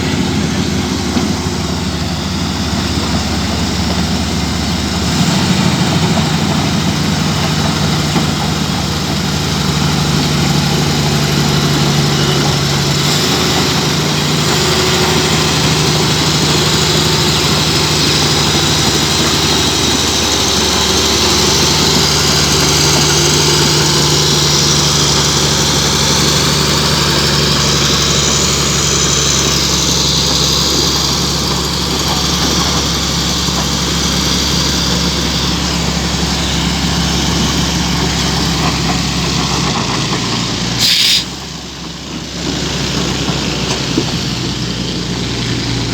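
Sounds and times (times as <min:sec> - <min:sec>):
engine humming steadily: 0:00.0 - 0:45.9.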